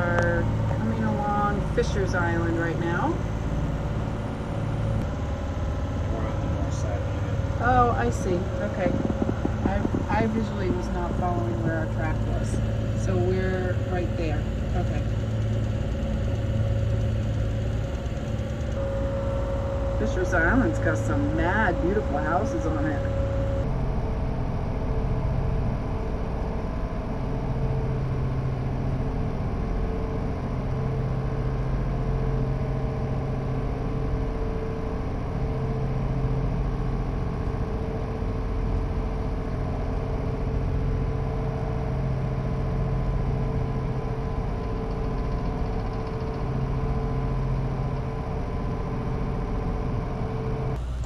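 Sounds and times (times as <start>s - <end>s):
boat diesel engines droning: 0.0s - 51.0s.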